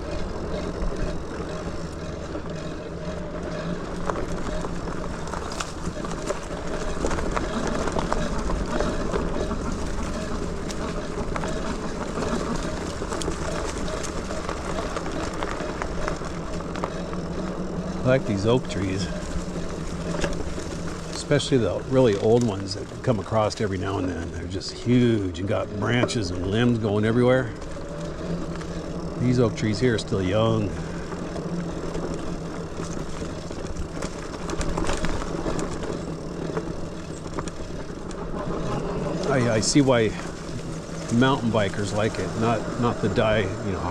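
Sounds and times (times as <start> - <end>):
bike clicks and rattles: 0.0 - 43.9
electric motor hum: 0.0 - 43.9
grit and stones ticking: 0.0 - 43.9
tyres rolling over dirt: 0.0 - 43.9.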